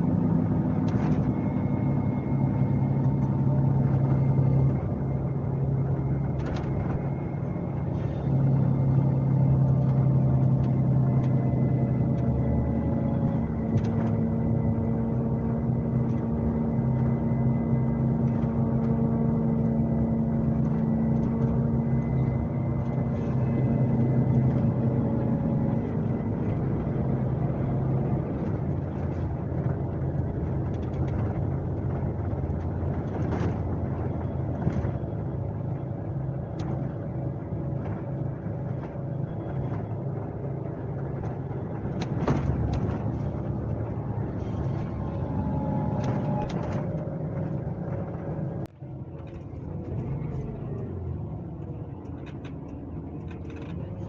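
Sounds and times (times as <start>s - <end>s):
bus diesel engine hum: 0.0s - 54.0s.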